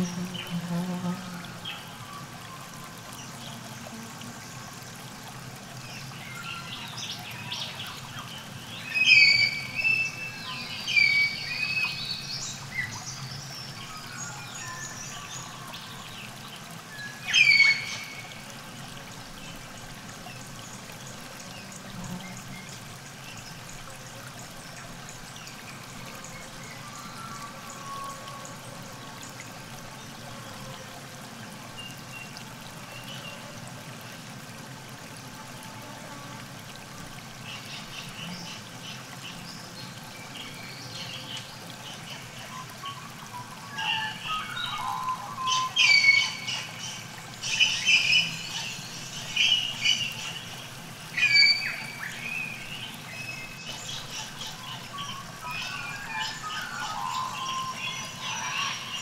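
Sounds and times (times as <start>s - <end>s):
river water trickling: 0.0s - 59.0s.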